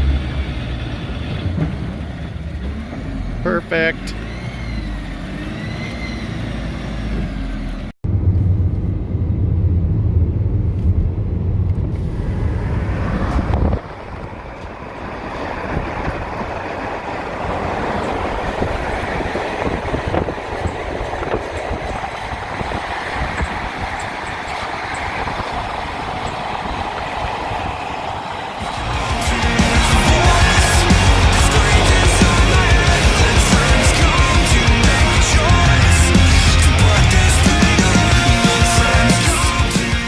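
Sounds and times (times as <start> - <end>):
off-road vehicle engine rumbling: 0.0 - 40.0.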